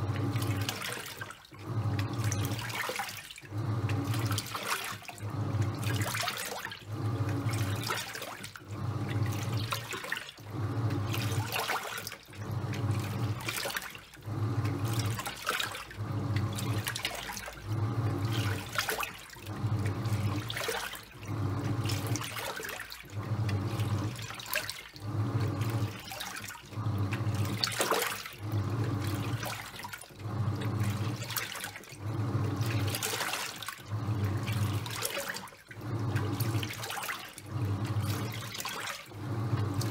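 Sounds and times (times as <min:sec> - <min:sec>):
washing machine motor humming: 0:00.0 - 0:39.9
water sloshing in tub: 0:00.0 - 0:39.9.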